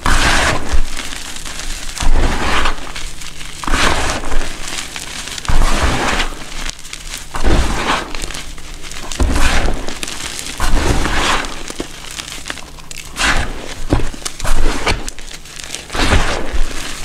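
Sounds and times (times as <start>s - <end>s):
chalk powder crunching: 0.0s - 17.0s.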